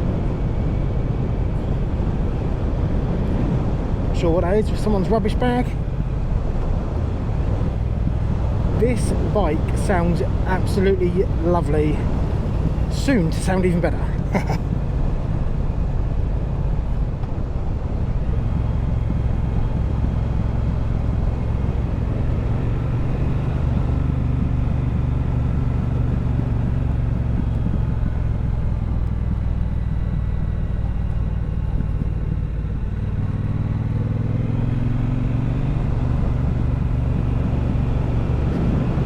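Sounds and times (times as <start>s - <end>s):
motorcycle engine running: 4.5s - 15.4s, 17.9s - 39.0s.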